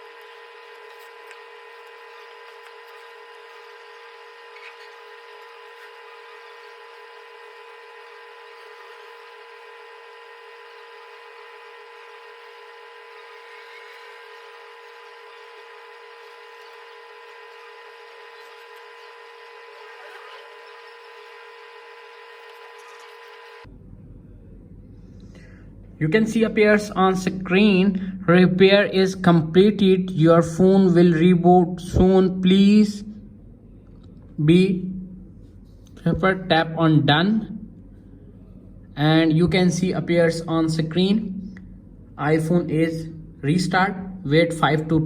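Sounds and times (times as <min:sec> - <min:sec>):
machine hum with fixed tones: 0:00.0 - 0:45.0.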